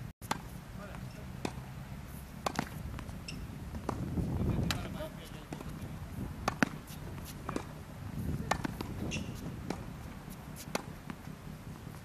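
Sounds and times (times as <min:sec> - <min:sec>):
tennis ball struck by rackets: 0:00.2 - 0:11.4
tennis ball bouncing on court: 0:00.2 - 0:12.0.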